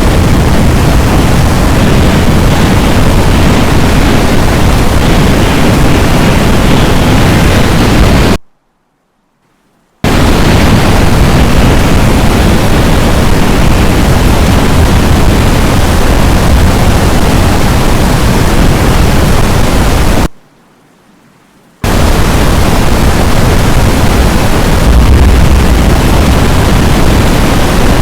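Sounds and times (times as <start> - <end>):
strong wind on microphone: 0.0 - 8.4, 10.0 - 20.3, 21.8 - 28.0.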